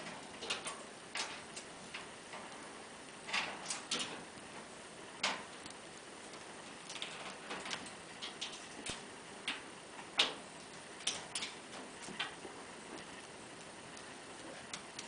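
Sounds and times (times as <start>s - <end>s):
sharp clicks and cracks: 0.0s - 15.0s.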